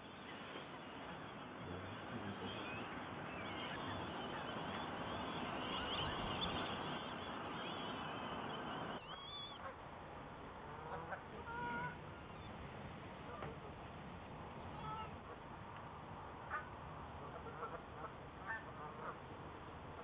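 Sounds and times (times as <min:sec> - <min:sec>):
birds calling: 0:00.0 - 0:09.8, 0:10.6 - 0:19.2
busy outdoor background: 0:00.0 - 0:20.0.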